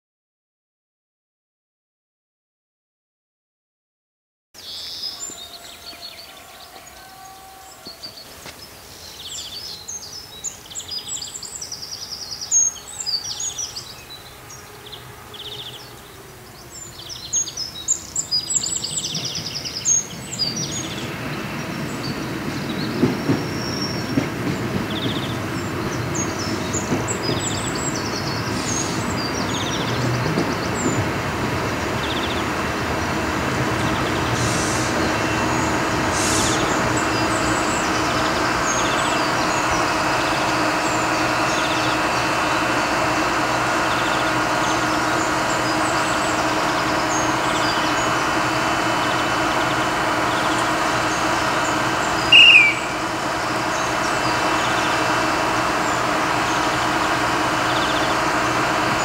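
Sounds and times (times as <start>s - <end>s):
birds chirping: 4.6s - 59.0s
diesel railcar approaching: 4.6s - 59.0s.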